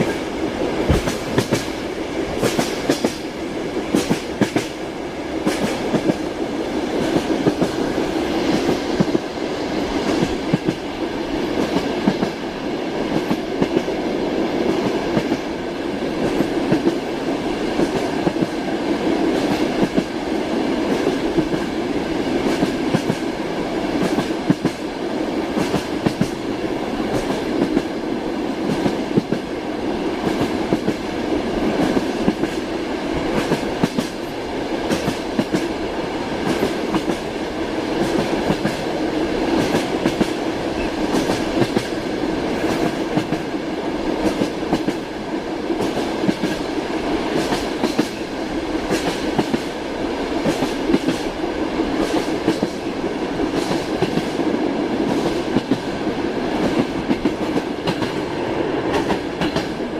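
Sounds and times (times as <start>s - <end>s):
train wheels clacking over rails: 0.0s - 59.9s.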